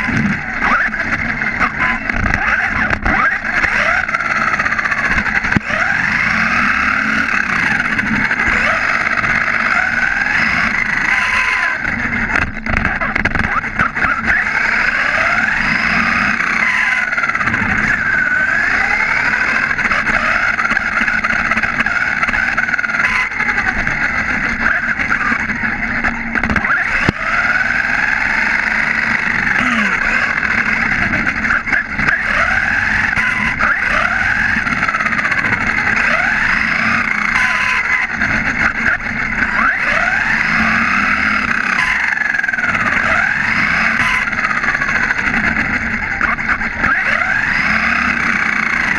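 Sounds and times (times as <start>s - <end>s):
electric motor and gear whine: 0.0s - 48.9s
tyres rushing on asphalt: 0.0s - 48.9s.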